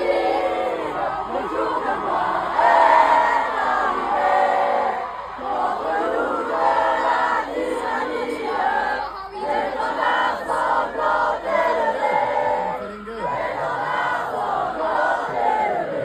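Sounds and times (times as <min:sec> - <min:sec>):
crowd calling out and cheering: 0:00.0 - 0:16.0.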